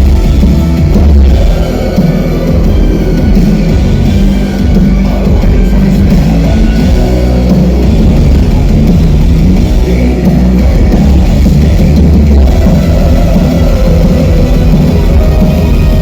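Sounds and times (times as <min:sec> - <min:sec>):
live synth band playing loud: 0:00.0 - 0:16.0.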